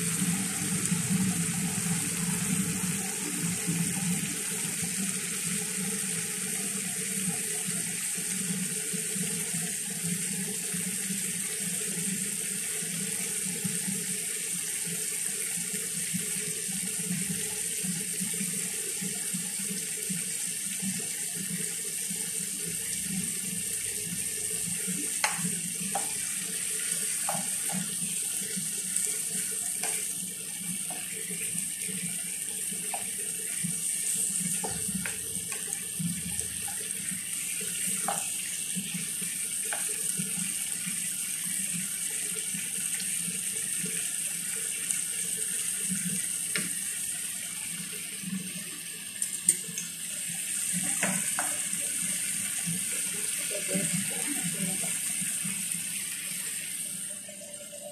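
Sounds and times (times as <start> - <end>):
food sizzling in frying pan: 0.0 - 57.9.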